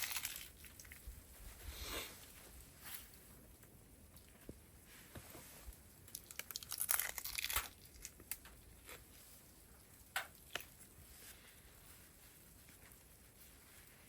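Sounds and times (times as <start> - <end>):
crinkling and crunching handling: 0.0 - 14.0.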